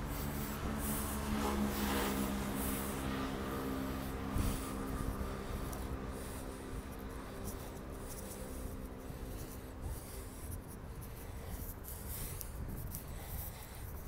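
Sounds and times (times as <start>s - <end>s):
faint engine hum: 0.0s - 14.0s
wind buffeting microphone: 0.0s - 14.0s.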